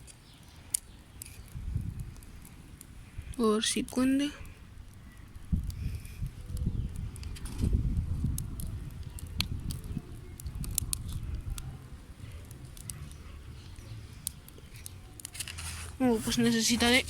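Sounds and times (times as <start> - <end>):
campfire crackling: 0.0 - 17.0
wind rumble on microphone: 1.4 - 17.0.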